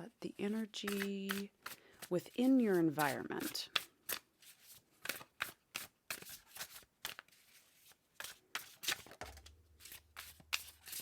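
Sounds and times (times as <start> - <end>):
cards being shuffled: 0.8 - 11.0.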